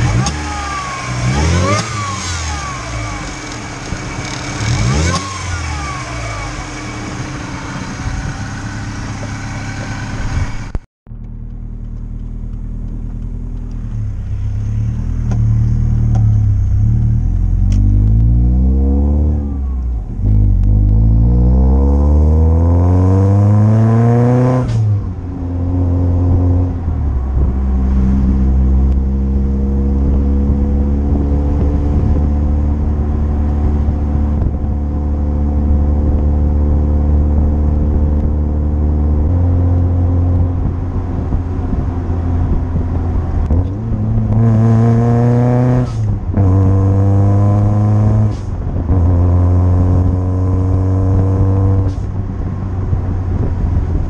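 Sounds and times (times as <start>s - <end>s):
car engine revving and accelerating: 0.0s - 10.8s, 11.6s - 54.0s.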